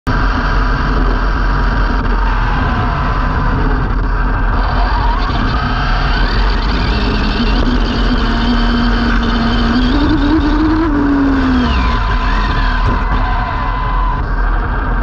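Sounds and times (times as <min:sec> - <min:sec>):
wind and tyre noise: 0:00.0 - 0:15.0
electric motor whine: 0:00.9 - 0:15.0.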